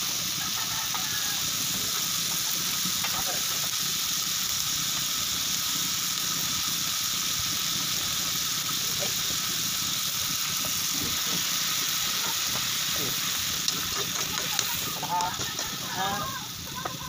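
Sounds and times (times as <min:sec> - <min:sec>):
seafood sizzling in a wok: 0:00.0 - 0:17.0.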